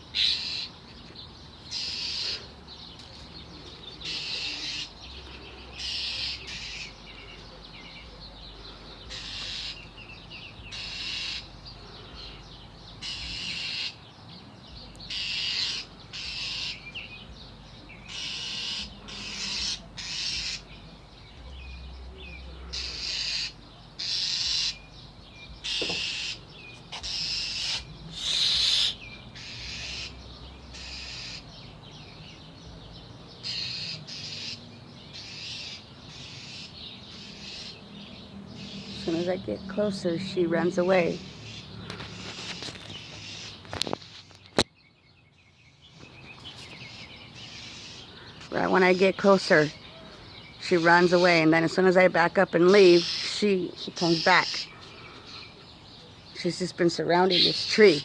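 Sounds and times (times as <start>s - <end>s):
bird harsh alarm calls: 0.0s - 2.9s, 3.6s - 45.0s, 45.8s - 58.0s.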